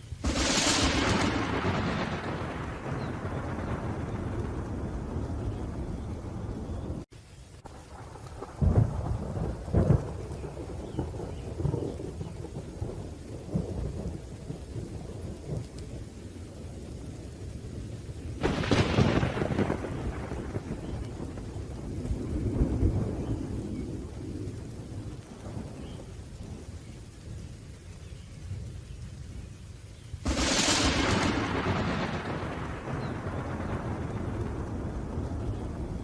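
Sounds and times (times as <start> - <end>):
rolling thunder: 0.0 - 29.5, 30.2 - 36.0
steady rain: 0.0 - 36.0
sharp thunderclap: 0.2 - 7.1, 7.7 - 15.8, 18.4 - 26.7, 30.2 - 36.0.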